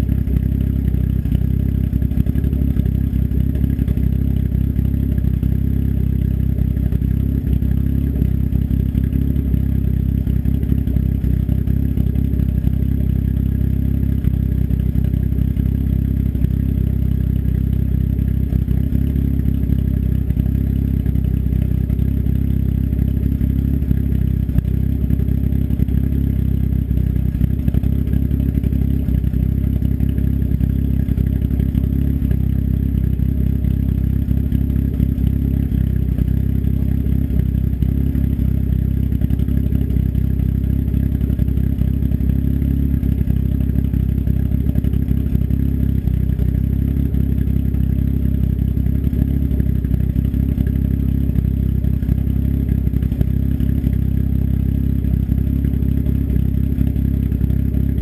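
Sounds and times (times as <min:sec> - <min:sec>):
turbocharged engine idling: 0:00.0 - 0:58.0.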